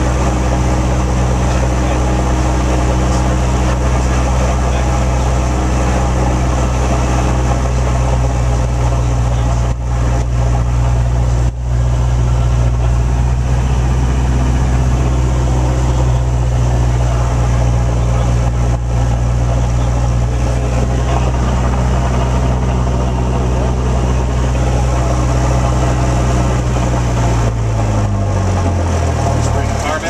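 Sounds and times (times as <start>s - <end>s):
light airplane engine and propeller: 0.0s - 30.0s.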